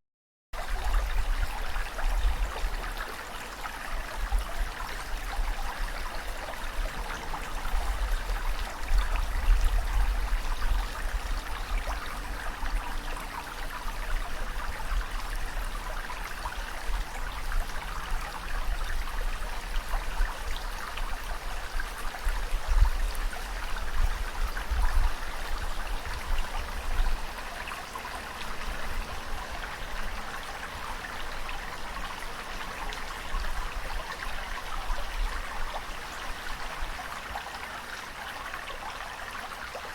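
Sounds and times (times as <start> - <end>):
rushing trickling water: 0.6 - 39.9.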